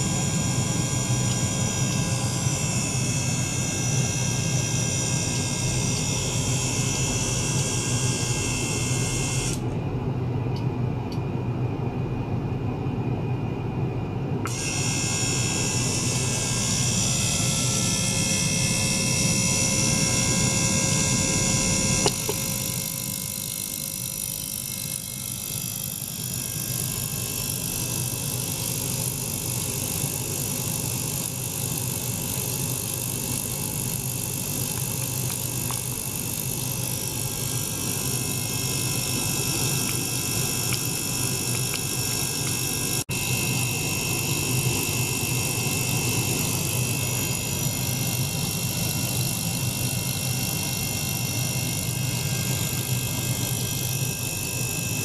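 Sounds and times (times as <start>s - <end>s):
ultrasonic cleaner humming: 0.0s - 55.0s.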